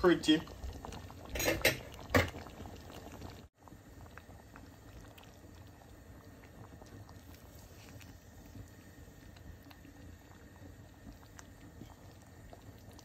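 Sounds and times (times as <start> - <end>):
gravy simmering and bubbling: 0.0 - 13.0.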